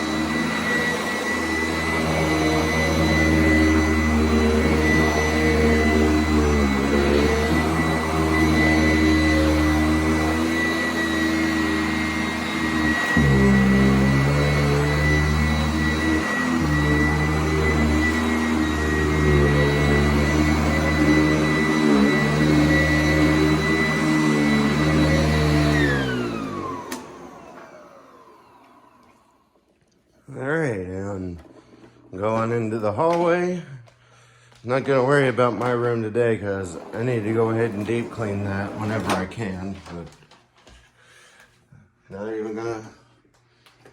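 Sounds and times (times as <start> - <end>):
vacuum cleaner running: 0.0 - 41.4.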